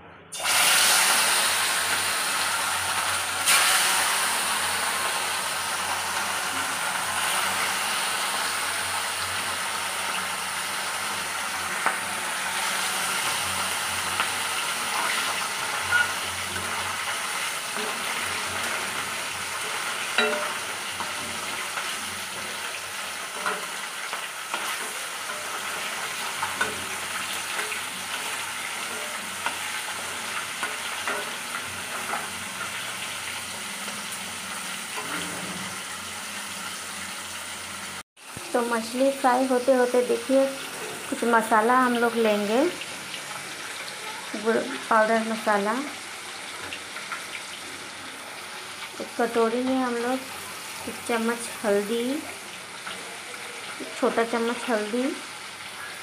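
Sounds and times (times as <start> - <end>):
fish sizzling in hot oil: 0.3 - 56.0.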